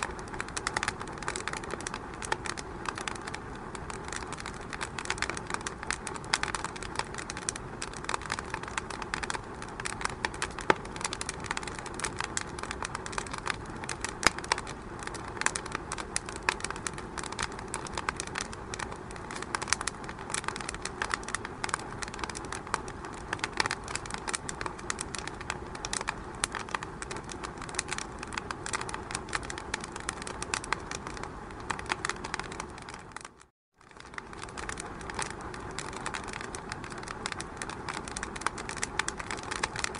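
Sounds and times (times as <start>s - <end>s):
fire hissing: 0.0s - 33.0s, 34.0s - 39.9s
wood fire crackling and popping: 0.0s - 39.9s.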